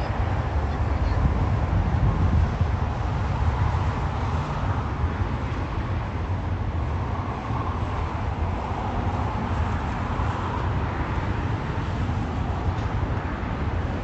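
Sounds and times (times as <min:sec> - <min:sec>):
distant jet engines roaring: 0:00.0 - 0:14.0.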